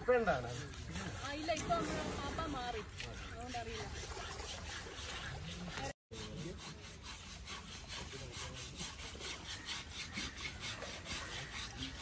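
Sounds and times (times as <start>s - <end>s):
husk scrubbing elephant hide: 0.0s - 12.0s.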